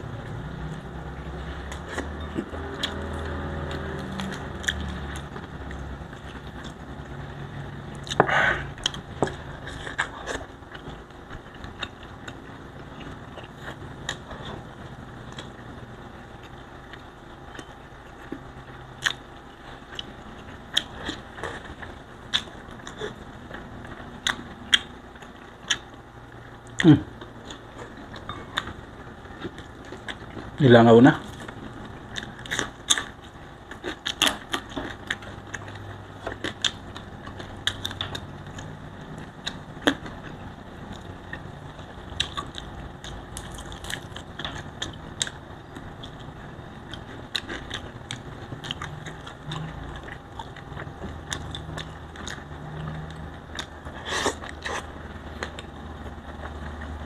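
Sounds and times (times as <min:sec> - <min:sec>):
chewing and eating sounds: 0:00.0 - 0:57.0.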